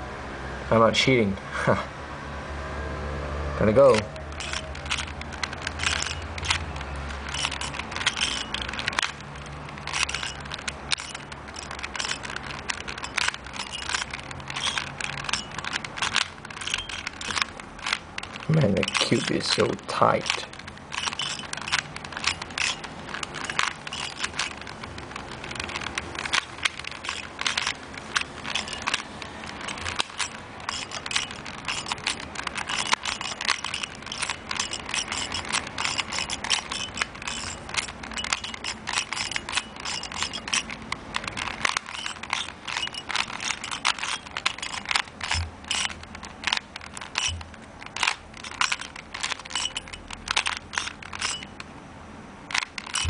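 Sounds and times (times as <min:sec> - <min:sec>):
plastic puzzle cube clicking: 0:03.9 - 0:51.7, 0:52.5 - 0:53.0.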